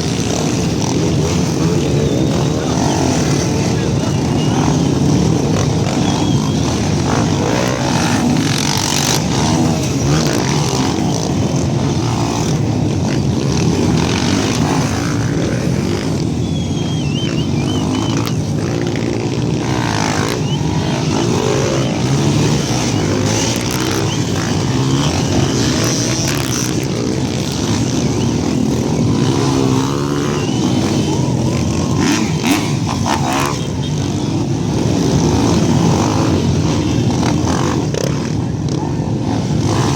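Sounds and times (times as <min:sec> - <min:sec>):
motorcycles revving: 0:00.0 - 0:39.9.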